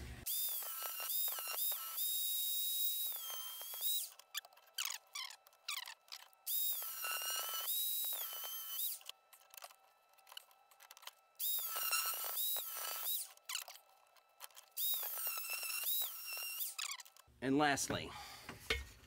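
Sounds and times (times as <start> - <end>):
rotary tool grinding metal: 0.3 - 17.3.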